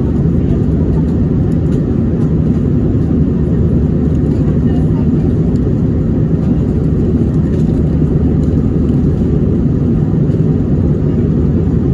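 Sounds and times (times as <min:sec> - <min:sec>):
airliner cabin engine rumble: 0:00.0 - 0:11.9.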